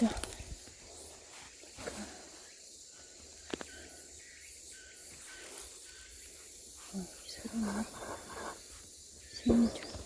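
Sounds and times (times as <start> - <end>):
high insect chorus: 0.0 - 10.0.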